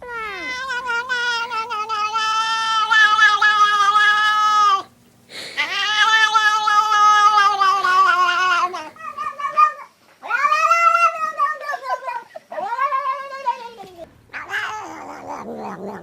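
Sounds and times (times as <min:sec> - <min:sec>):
cat yowling: 0:00.0 - 0:16.0.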